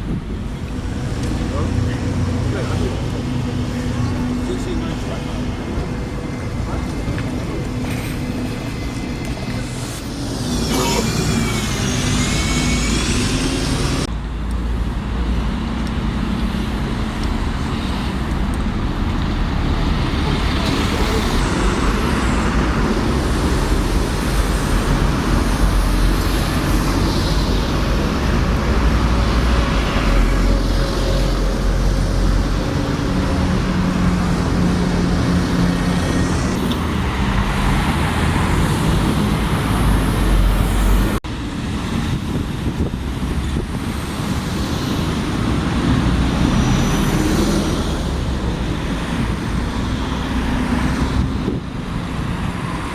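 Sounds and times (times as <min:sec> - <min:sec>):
vehicles passing: 0:00.0 - 0:52.9.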